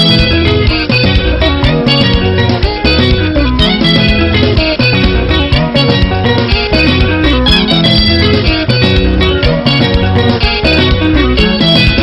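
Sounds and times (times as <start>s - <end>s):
bass guitar: 0.0s - 12.0s
electric guitar lines: 0.0s - 12.0s
steady drum beat: 0.0s - 12.0s.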